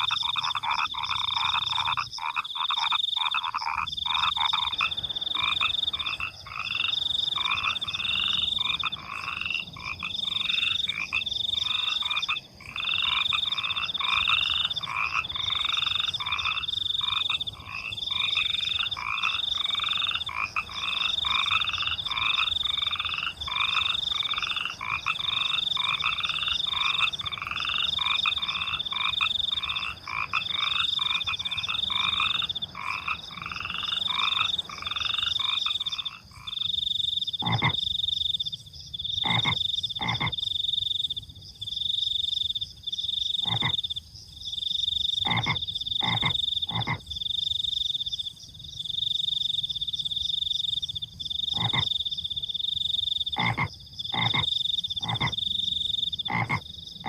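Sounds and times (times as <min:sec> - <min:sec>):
crickets trilling: 0:00.0 - 0:57.0
frogs croaking: 0:00.0 - 0:57.0.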